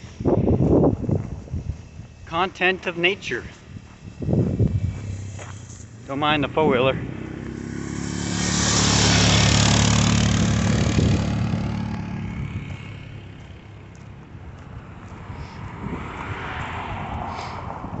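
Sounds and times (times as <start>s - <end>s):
atv engine passing by: 0.7s - 18.0s.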